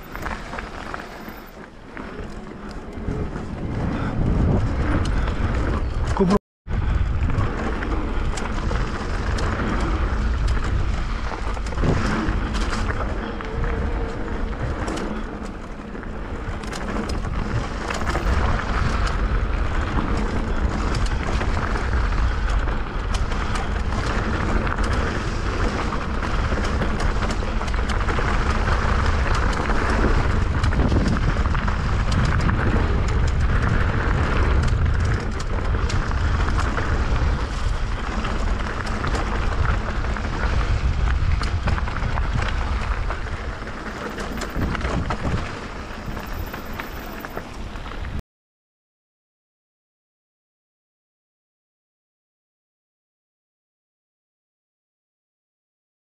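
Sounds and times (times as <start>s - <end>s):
bike rattles and clicks: 0.0s - 48.2s
bike tyres rolling on dirt: 0.0s - 48.2s
wind buffeting microphone: 0.0s - 48.2s.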